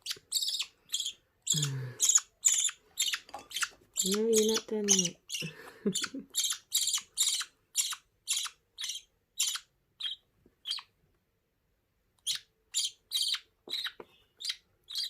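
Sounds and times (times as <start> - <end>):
budgie chick squawking: 0.0 - 10.9, 12.2 - 15.0.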